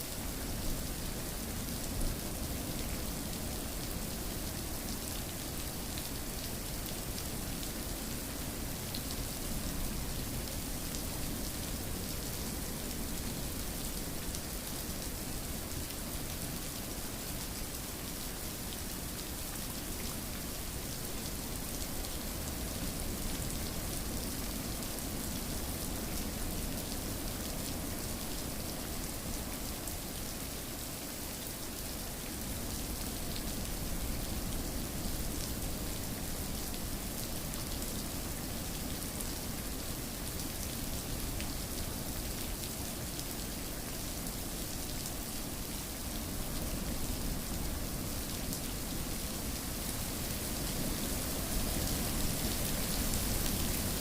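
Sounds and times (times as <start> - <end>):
rain pattering on a surface: 0.1 - 54.0.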